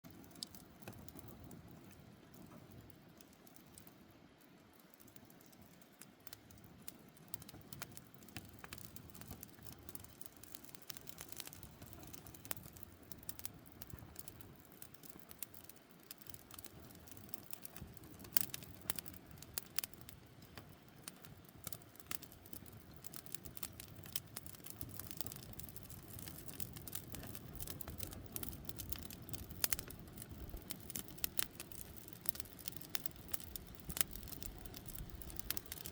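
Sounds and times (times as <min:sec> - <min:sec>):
campfire crackling and popping: 0:00.0 - 0:35.9
low steady fire rush: 0:06.0 - 0:35.9.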